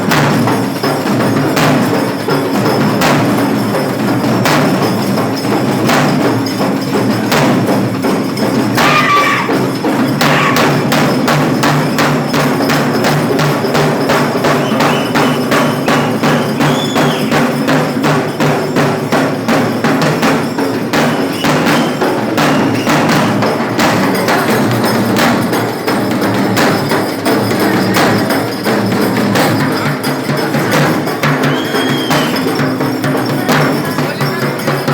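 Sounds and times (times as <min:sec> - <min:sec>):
drum band playing: 0:00.0 - 0:34.9.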